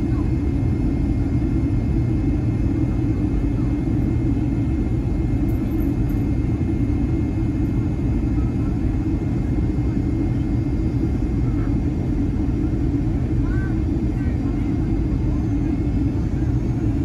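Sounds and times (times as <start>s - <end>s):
airplane cabin roar: 0.0s - 17.0s.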